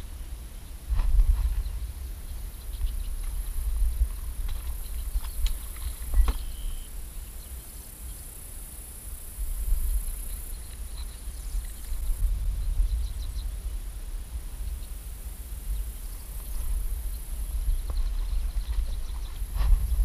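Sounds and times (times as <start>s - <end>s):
wind buffeting microphone: 0.0s - 7.5s, 9.3s - 20.0s
high-pitched hiss: 1.7s - 20.0s.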